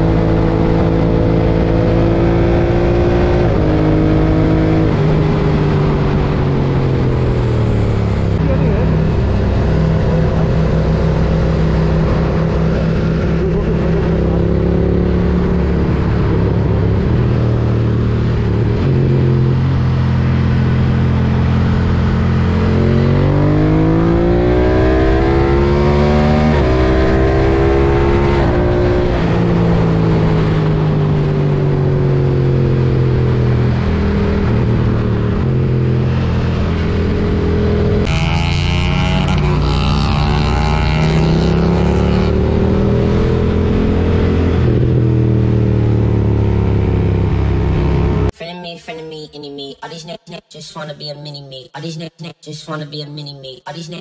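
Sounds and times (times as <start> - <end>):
wind and road noise: 0.0 - 48.3.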